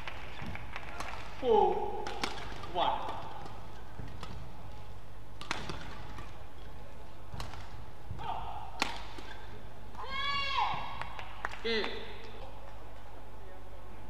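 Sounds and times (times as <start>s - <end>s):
racket hitting shuttlecock: 0.0s - 12.4s.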